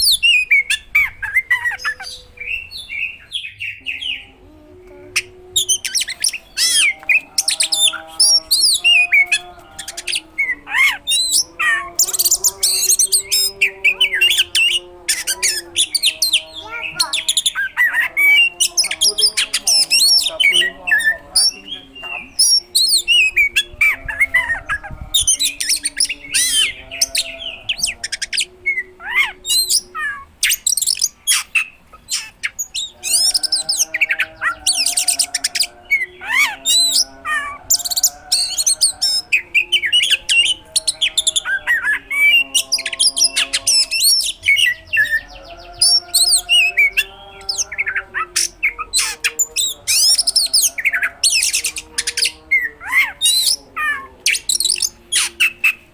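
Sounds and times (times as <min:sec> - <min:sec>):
songbird singing with whistles: 0:00.0 - 0:04.3, 0:05.1 - 0:55.9.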